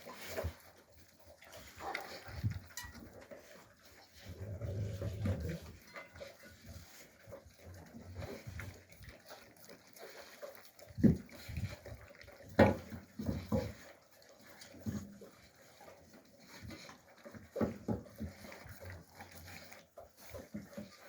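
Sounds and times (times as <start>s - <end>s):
puppies giving low vocal sounds: 0.0s - 21.0s.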